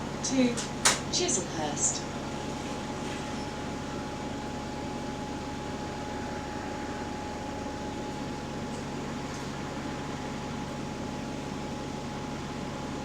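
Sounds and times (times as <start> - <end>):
bus engine drone: 0.0 - 13.0
thin constant whine: 0.0 - 13.0
ventilation hum: 0.0 - 13.0.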